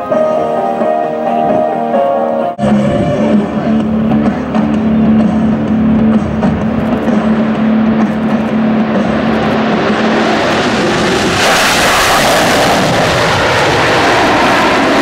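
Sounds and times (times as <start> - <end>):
jet engines roaring: 2.6 - 15.0.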